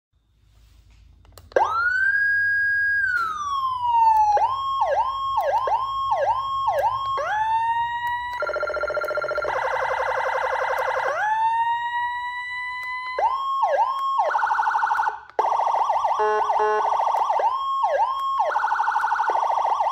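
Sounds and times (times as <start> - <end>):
electronic vehicle siren: 1.5 - 19.9.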